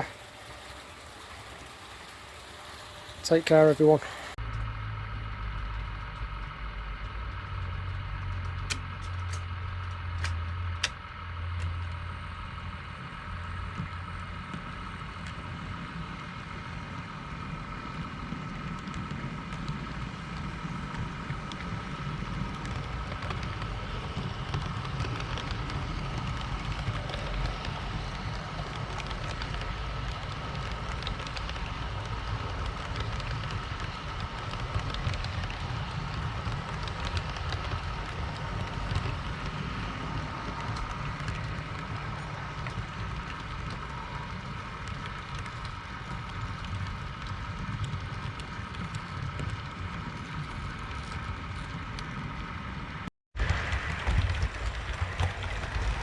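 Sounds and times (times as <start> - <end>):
model train wheels rumbling: 0.0 - 56.0.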